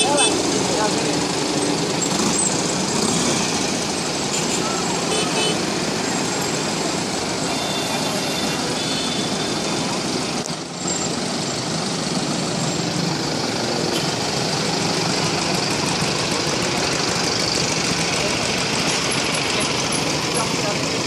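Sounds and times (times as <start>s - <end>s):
vehicle engines running and idling: 0.0s - 21.0s.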